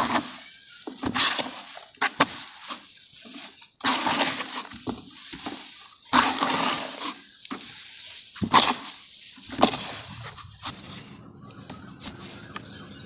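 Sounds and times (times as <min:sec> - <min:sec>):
wet dirt squelching: 0:00.0 - 0:13.0.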